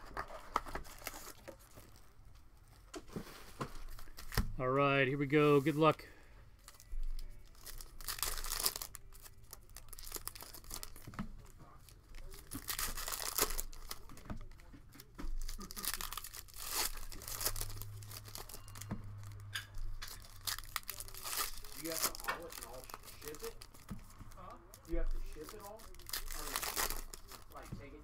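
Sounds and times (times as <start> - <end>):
plastic wrapping tearing and crinkling: 0.0 - 2.1, 3.8 - 4.5, 6.6 - 28.0.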